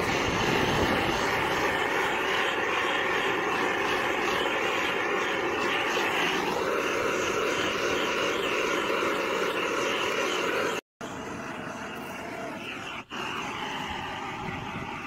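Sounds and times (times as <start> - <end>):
gas torch hissing: 0.0 - 15.0.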